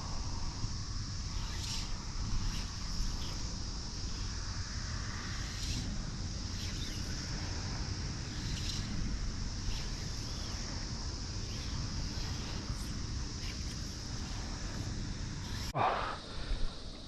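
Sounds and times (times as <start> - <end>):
constant high hiss: 0.0 - 17.0.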